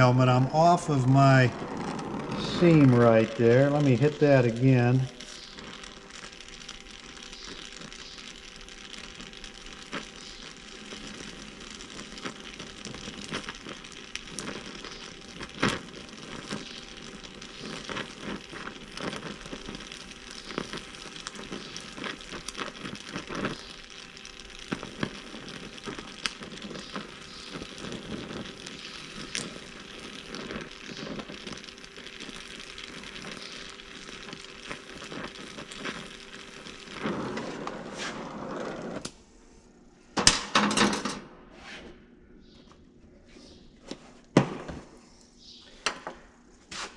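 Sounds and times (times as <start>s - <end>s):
crackling and popping sparks: 0.0s - 39.3s, 40.1s - 41.2s
welding torch flame hissing: 0.0s - 41.1s, 43.2s - 46.9s.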